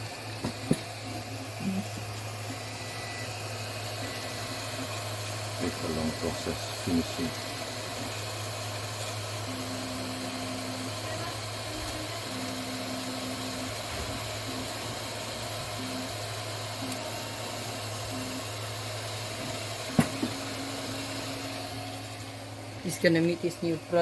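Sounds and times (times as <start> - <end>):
fan hum: 0.0 - 24.0
stepper motors whining: 0.0 - 24.0.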